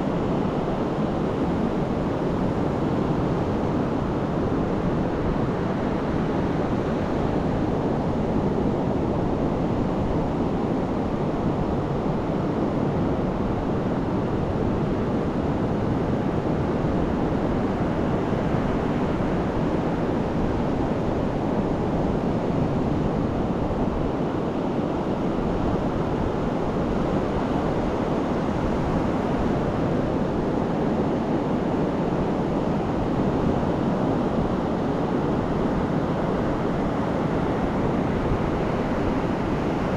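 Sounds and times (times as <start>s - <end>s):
surf washing up a beach: 0.0s - 39.9s.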